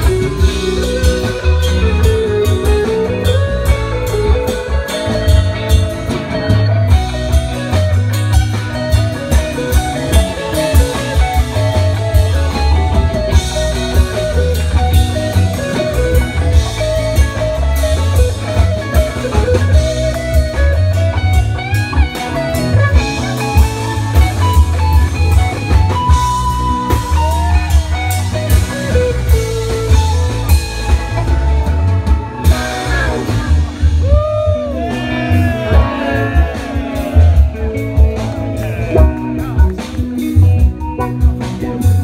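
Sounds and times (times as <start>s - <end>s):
electric guitar bending notes: 0.0s - 42.0s
rock band playing: 0.0s - 42.0s.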